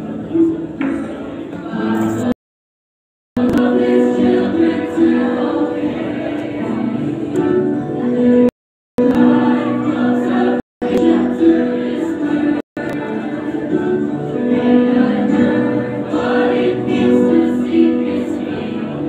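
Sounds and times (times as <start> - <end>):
choir singing: 0.0 - 2.4, 3.4 - 19.0.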